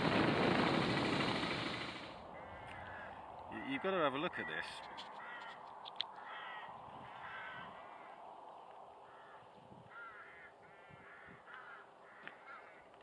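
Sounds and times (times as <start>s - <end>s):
crows cawing: 2.2s - 13.0s.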